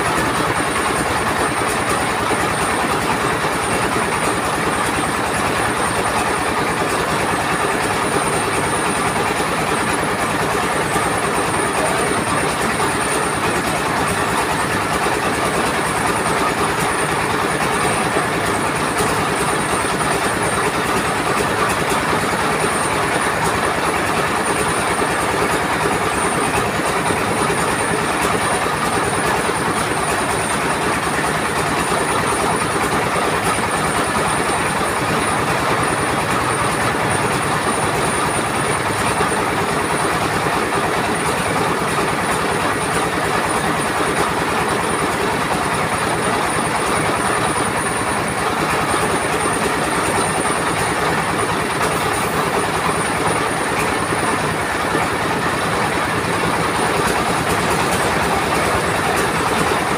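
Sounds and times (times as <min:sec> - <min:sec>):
rice mill machinery rattling: 0:00.0 - 0:59.9
high mechanical whine: 0:00.1 - 0:59.9.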